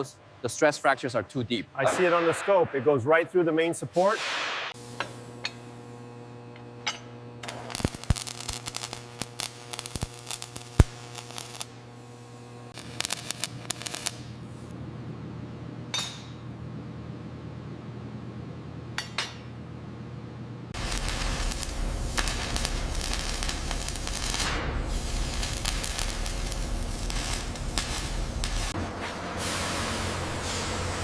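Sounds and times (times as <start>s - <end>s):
low electrical hum: 4.8s - 31.0s.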